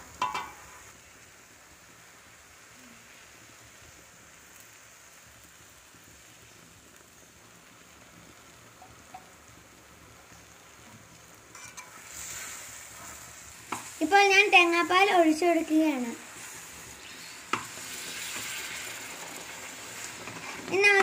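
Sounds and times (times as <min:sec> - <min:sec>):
stirring in a pan: 0:00.0 - 0:05.2, 0:05.8 - 0:21.0
sweet mixture sizzling in ghee: 0:00.0 - 0:21.0.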